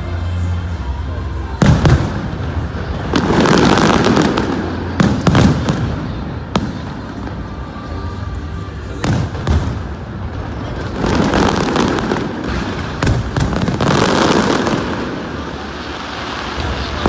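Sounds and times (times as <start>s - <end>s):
dense fireworks crackling: 0.0s - 17.0s.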